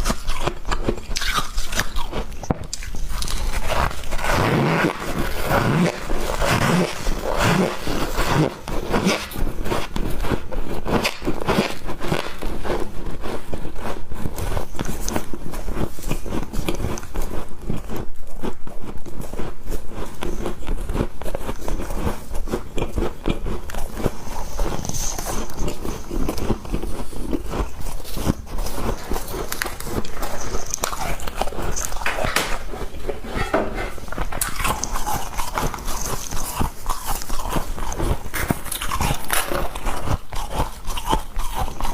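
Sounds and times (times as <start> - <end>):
chewing crunchy squeaky ice: 0.0 - 41.9.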